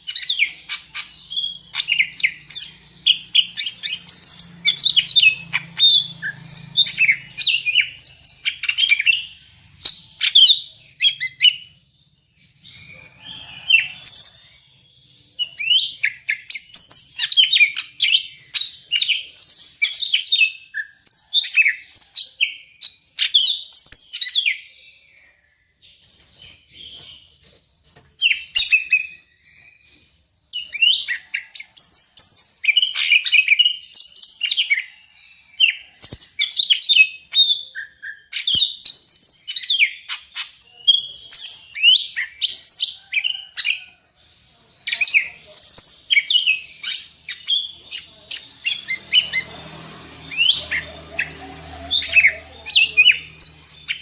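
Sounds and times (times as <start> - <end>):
bird singing varied song: 0.0 - 54.0.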